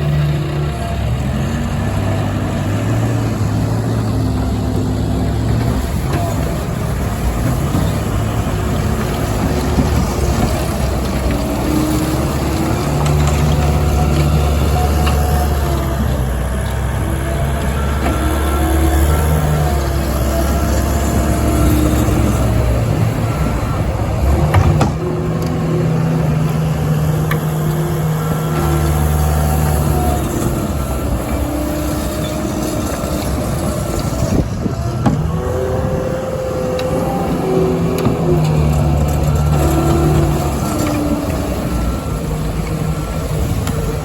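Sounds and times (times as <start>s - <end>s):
diesel engine working: 0.0s - 44.0s.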